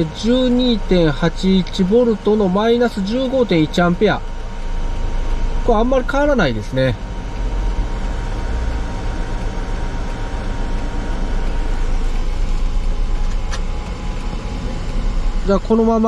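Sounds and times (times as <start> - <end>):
engine rumble inside van cabin: 0.0 - 16.0.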